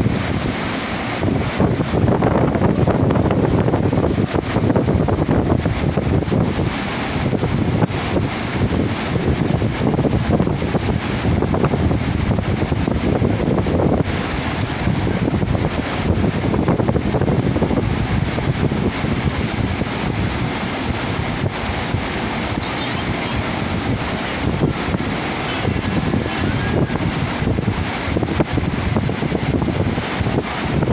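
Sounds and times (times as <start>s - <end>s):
rushing water wave: 0.0s - 30.9s
wind buffeting microphone: 0.0s - 30.9s.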